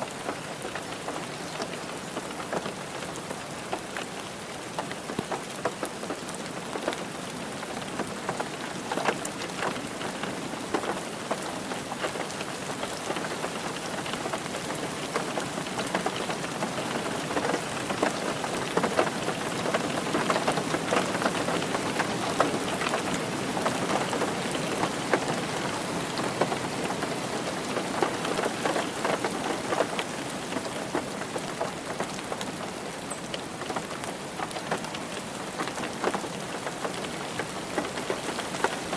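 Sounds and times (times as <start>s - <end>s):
rain on a car roof: 0.0s - 38.9s.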